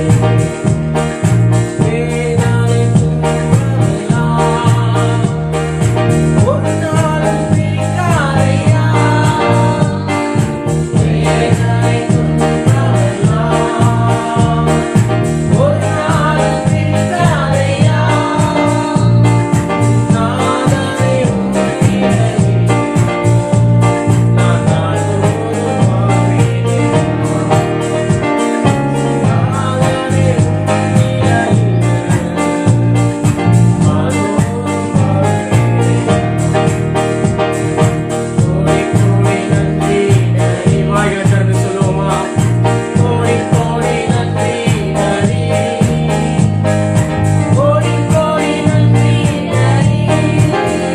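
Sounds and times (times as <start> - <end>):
person singing: 0.0 - 0.8, 1.5 - 36.7, 38.2 - 46.6, 47.5 - 50.9
instrumental music with steady beat: 0.0 - 50.9.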